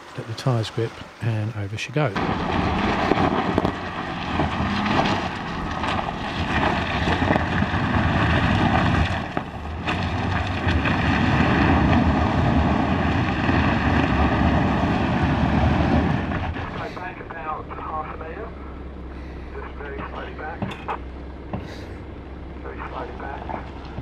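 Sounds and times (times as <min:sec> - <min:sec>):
off-road vehicle engine under load: 0:00.0 - 0:24.0
tyres on gravel: 0:00.0 - 0:24.0.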